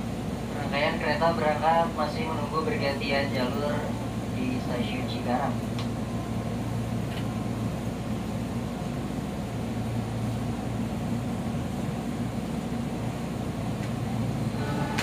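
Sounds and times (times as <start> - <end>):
train air conditioning hum: 0.0 - 15.0.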